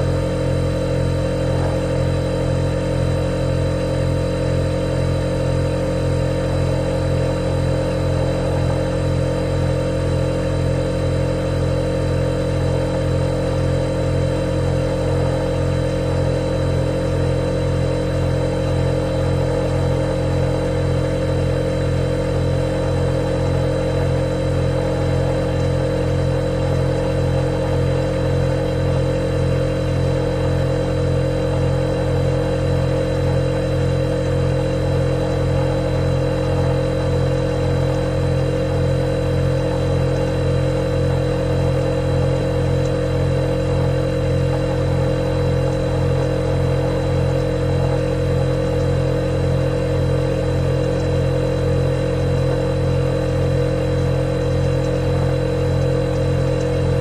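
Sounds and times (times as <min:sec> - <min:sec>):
refrigerator compressor humming: 0:00.0 - 0:57.0.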